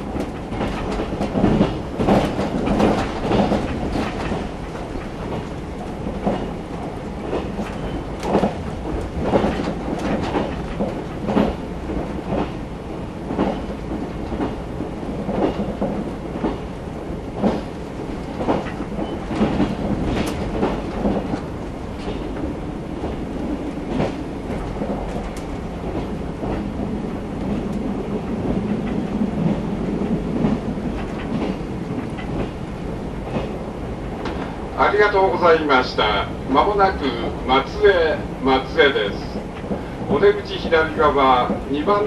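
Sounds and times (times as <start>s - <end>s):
train rumble inside carriage: 0.0s - 42.0s
wheels clacking over rail joints: 0.0s - 42.0s.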